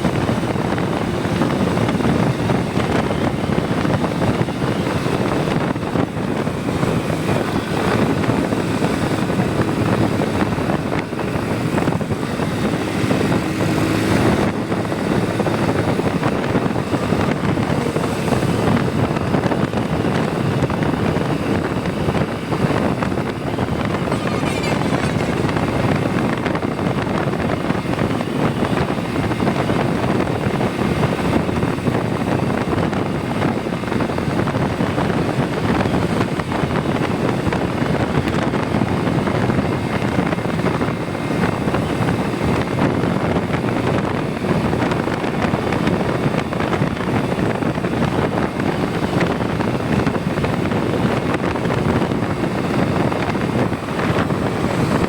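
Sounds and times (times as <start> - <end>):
motorcycle road noise: 0.0 - 55.0
wind buffeting microphone: 0.0 - 55.0.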